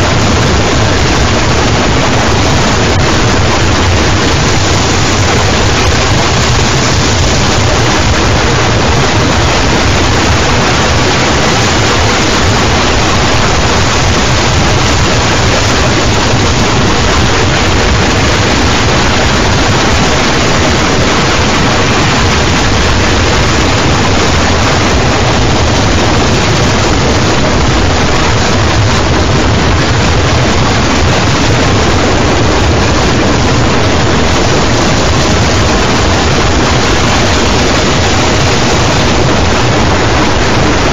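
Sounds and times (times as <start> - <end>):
harsh static noise: 0.0 - 40.9
low hum: 0.0 - 40.9.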